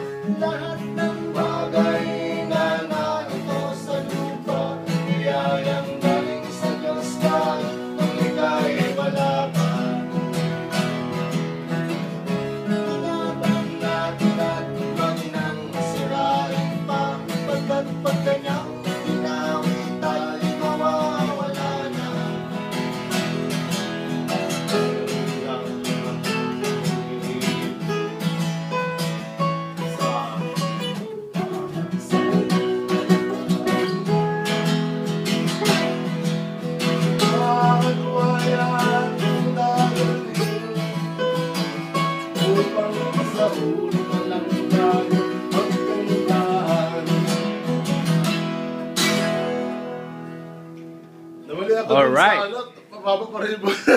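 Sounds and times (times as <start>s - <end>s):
person singing: 0.0s - 11.3s, 11.9s - 23.3s, 24.3s - 28.8s, 29.7s - 47.9s
acoustic guitar strumming: 0.0s - 52.5s.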